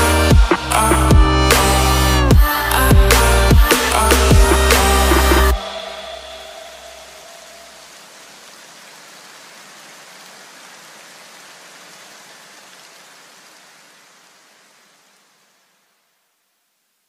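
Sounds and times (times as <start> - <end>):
rain-like hiss: 0.0 - 17.0.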